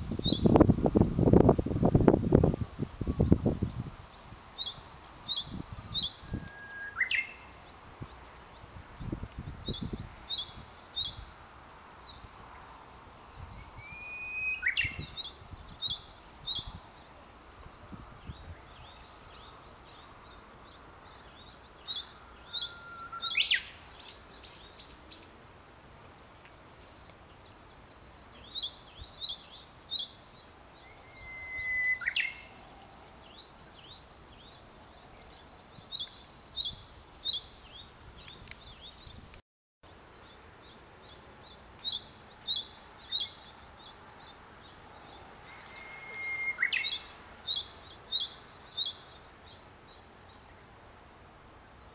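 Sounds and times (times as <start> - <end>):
bush warbler singing: 0.0 - 51.9
small birds chirping: 3.2 - 51.9.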